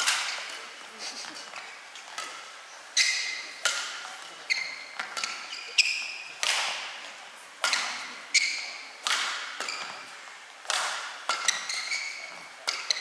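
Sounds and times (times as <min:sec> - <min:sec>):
rackets striking shuttlecock: 0:00.0 - 0:00.6, 0:02.1 - 0:13.0.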